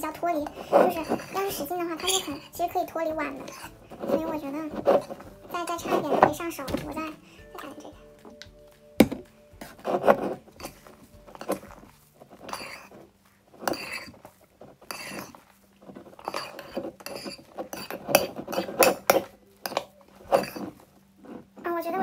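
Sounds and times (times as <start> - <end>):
metal spoon scraping porcelain bowl: 0.0 - 6.8, 9.6 - 21.6.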